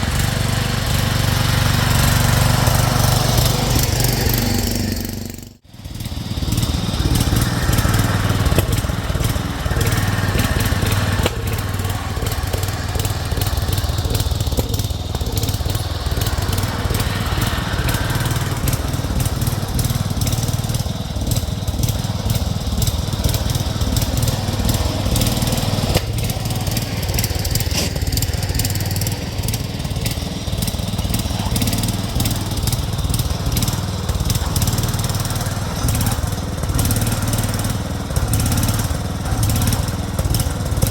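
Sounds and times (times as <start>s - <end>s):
small engine running under load: 0.0s - 40.9s.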